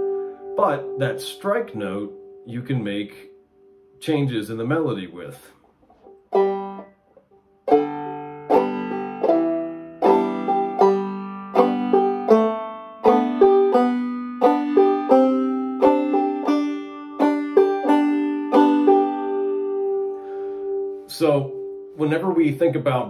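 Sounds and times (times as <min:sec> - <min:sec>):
banjo played clawhammer style: 0:00.0 - 0:03.2, 0:05.9 - 0:23.0.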